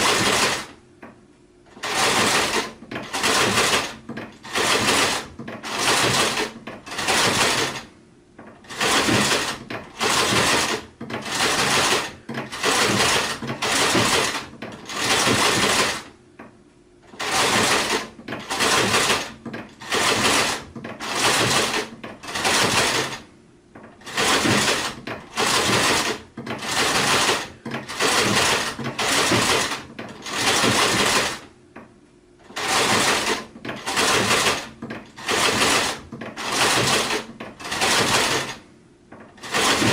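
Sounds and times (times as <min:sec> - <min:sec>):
sewing machine stitching: 0:00.0 - 0:00.8, 0:01.7 - 0:16.2, 0:17.0 - 0:31.5, 0:32.4 - 0:39.9.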